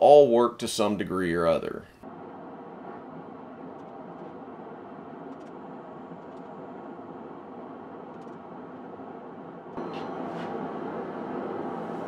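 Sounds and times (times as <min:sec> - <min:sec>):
gas burner roaring: 0:02.0 - 0:12.0.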